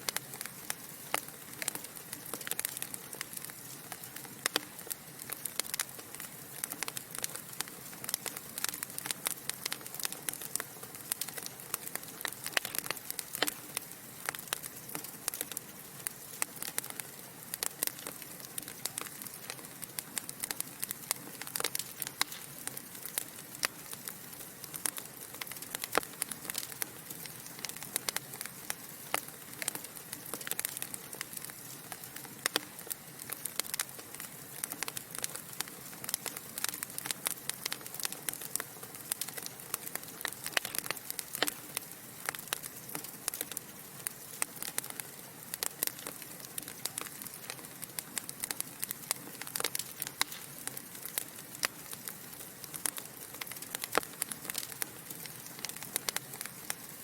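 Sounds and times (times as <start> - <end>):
burning logs popping and snapping: 0.0 - 57.0
wood fire hissing: 0.0 - 57.0.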